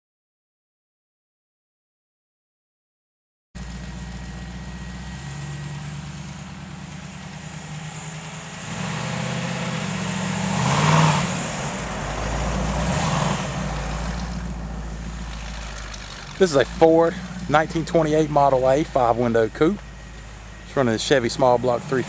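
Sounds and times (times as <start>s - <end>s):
vein engine car driving by: 3.6s - 22.0s.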